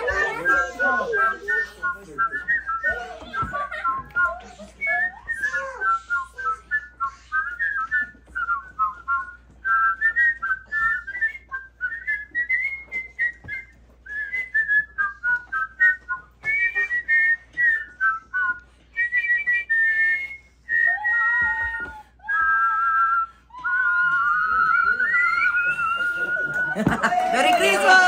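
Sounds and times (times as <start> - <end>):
people whistling a melody: 0.0 - 27.9.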